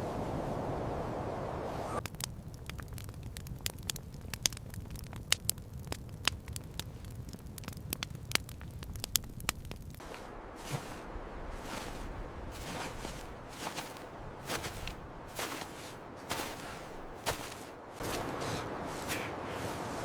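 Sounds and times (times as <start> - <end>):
sharp crackles and pops: 2.0 - 18.2.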